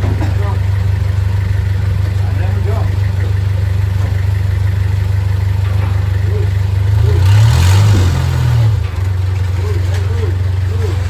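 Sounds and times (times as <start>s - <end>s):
vehicle engine idling and revving: 0.0s - 11.0s.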